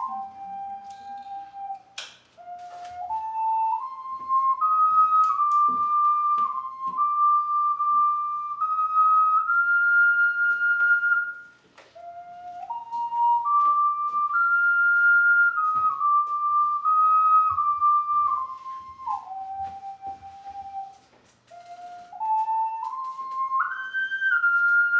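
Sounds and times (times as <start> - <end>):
ocarina melody: 0.0 - 24.9.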